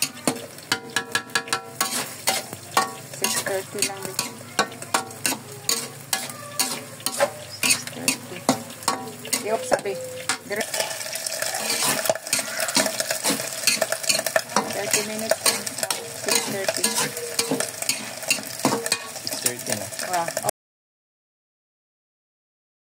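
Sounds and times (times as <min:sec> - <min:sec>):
food sizzling: 0:00.0 - 0:20.5
spatula scraping a metal wok: 0:00.0 - 0:20.5.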